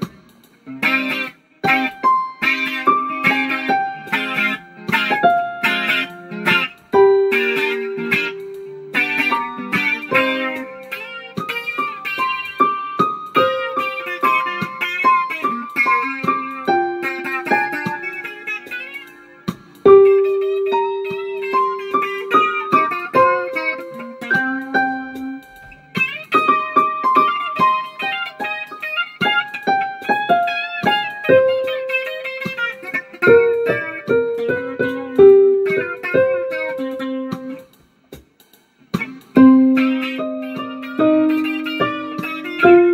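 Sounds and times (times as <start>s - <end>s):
electric guitar improvisation: 0.0s - 42.9s.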